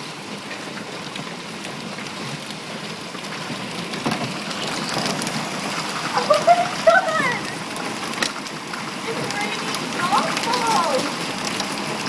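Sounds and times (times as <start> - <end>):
hail clattering: 0.0 - 12.0
rain and hail rushing: 0.0 - 12.0.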